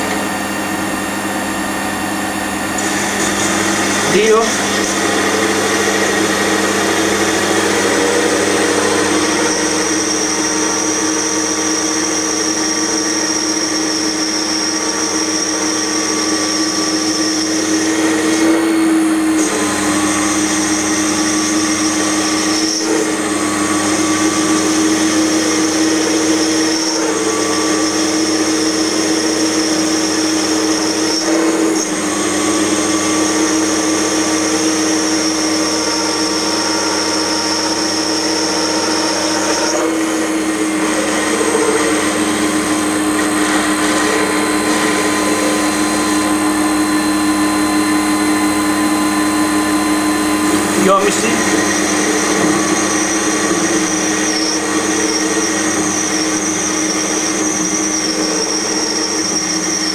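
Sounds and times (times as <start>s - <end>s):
metal lathe running: 0.0s - 59.9s.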